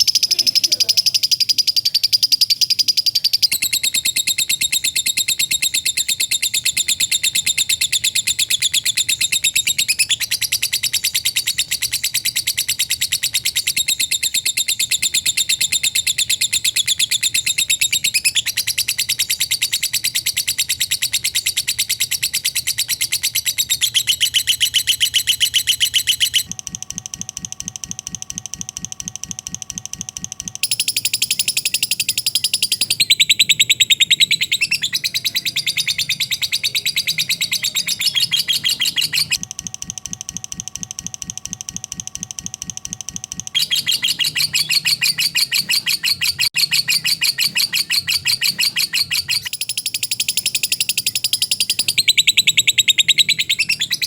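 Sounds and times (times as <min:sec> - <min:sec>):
lovebird chattering trill: 0:00.0 - 0:26.5, 0:30.6 - 0:39.4, 0:43.6 - 0:54.0.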